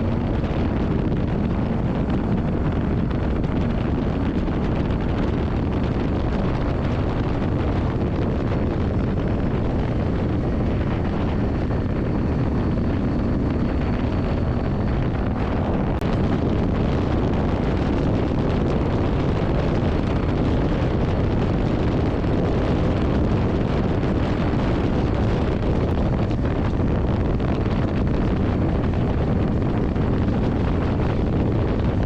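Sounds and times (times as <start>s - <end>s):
motorcycle engine running: 0.0s - 32.0s
wind noise on microphone: 0.0s - 32.0s.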